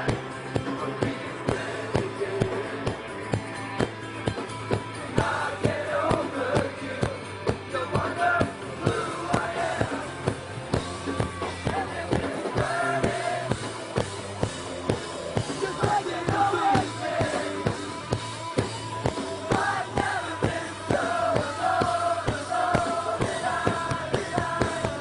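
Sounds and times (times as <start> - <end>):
drum kit steady beat: 0.0 - 25.0
live rock band playing: 0.0 - 25.0.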